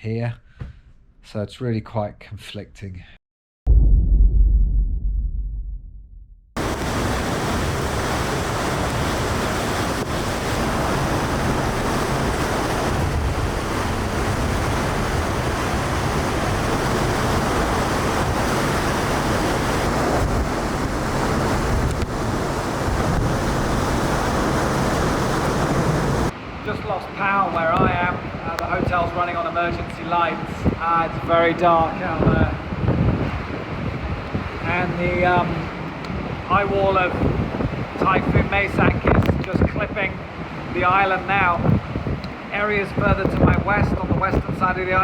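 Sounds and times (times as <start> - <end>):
loud rush of wind: 6.6 - 45.0.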